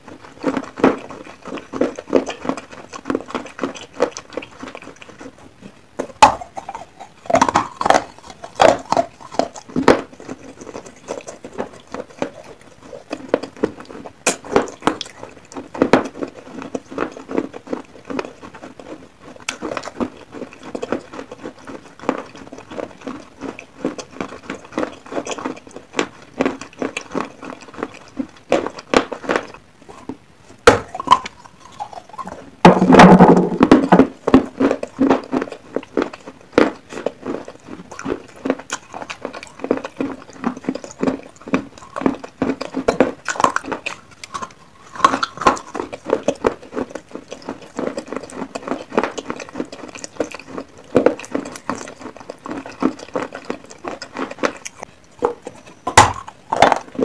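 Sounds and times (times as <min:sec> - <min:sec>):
chewing crunchy clay: 0:00.0 - 0:57.0.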